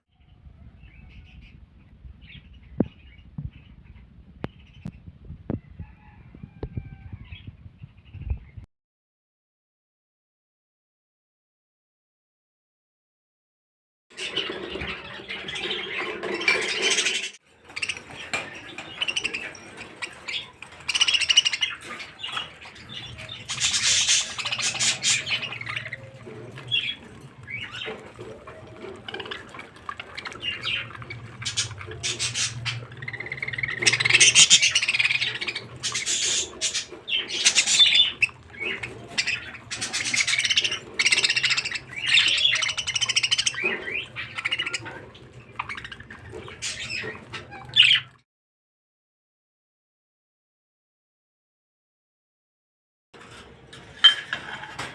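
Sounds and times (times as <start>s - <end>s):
cage birds chirping and squawking: 0.1s - 8.6s, 14.1s - 48.2s, 53.2s - 54.9s.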